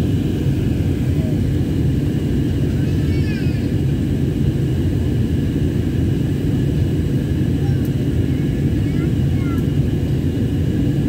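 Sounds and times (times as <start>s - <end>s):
jet engines and airflow roaring: 0.0s - 11.0s.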